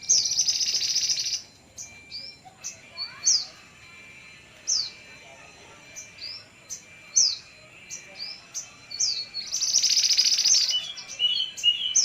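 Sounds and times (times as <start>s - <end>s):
fast dense bird trill: 0.0s - 12.0s
songbird chirps: 0.0s - 12.0s.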